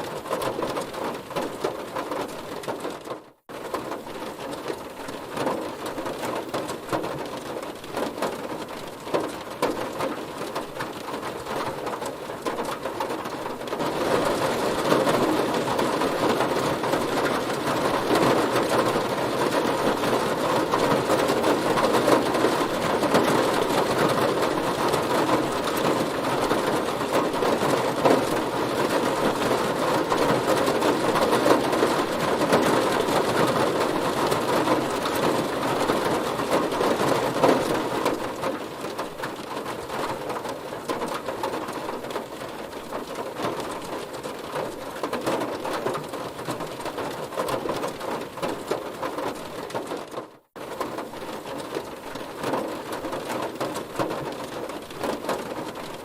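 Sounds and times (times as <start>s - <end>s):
heavy rain on car body: 0.0s - 56.0s.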